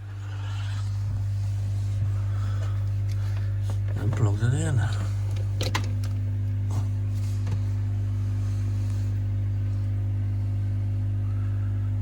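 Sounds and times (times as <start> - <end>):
filter motor humming: 0.0 - 12.0.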